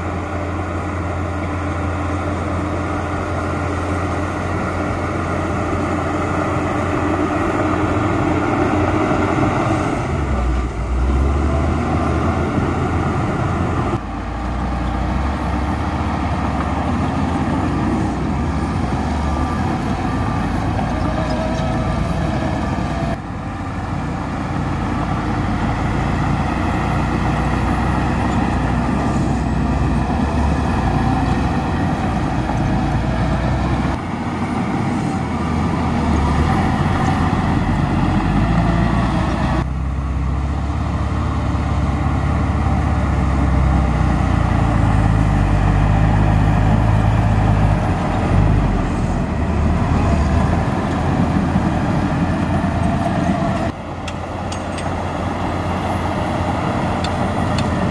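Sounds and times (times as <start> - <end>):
heavy diesel machinery running: 0.0 - 57.9.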